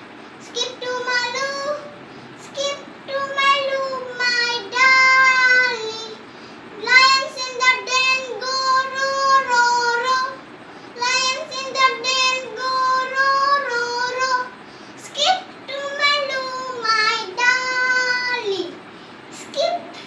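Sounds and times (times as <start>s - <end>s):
young child singing: 0.4s - 6.2s, 6.8s - 10.4s, 11.0s - 20.0s.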